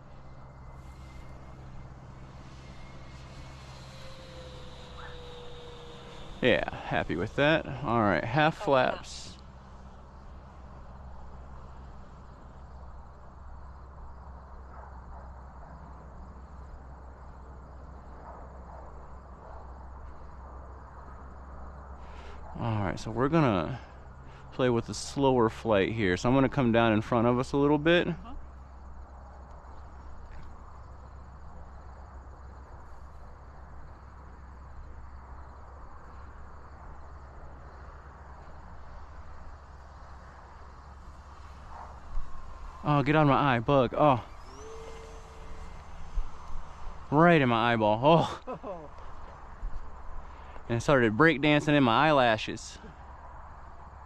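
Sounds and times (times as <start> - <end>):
continuous low rumble: 0.0 - 54.0
faint insect chirring: 0.0 - 54.0.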